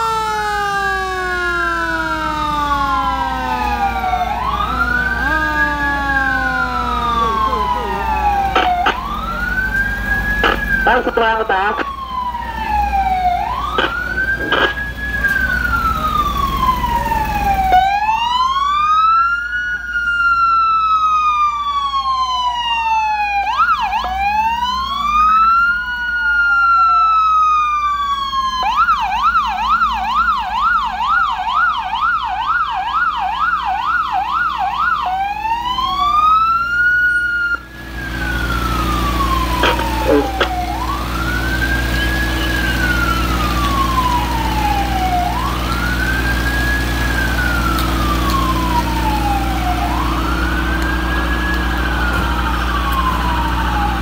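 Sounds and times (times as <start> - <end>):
emergency sirens wailing: 0.0 - 54.0
siren yelp: 0.0 - 54.0.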